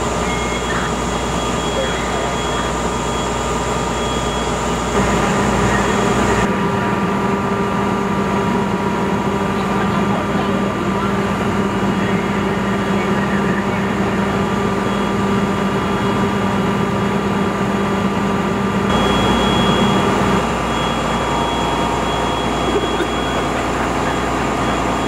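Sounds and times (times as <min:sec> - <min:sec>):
fire engine pump motor drone: 0:00.0 - 0:25.0.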